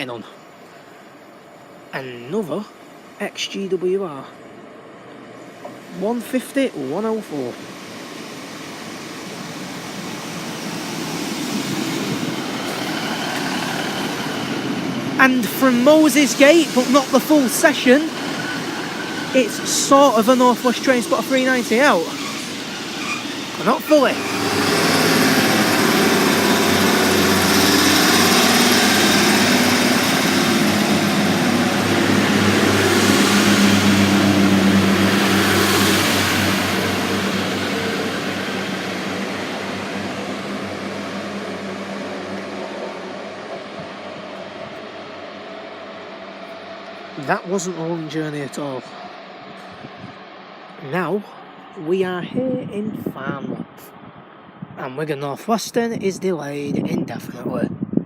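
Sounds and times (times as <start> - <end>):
train engine: 0.0 - 54.6
train wheels on rails: 4.9 - 52.5.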